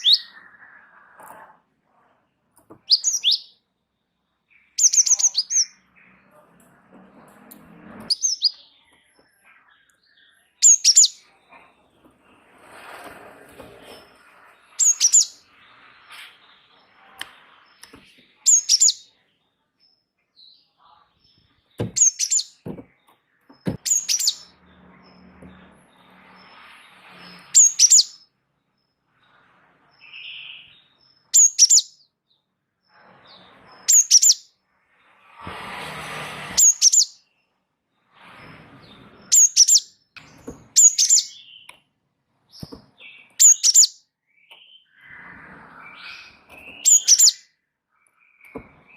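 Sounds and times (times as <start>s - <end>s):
bird singing high sharp phrases: 0.0s - 1.6s, 2.7s - 6.4s, 8.0s - 11.6s, 14.6s - 34.8s, 36.6s - 37.6s, 38.8s - 41.9s, 42.5s - 48.9s.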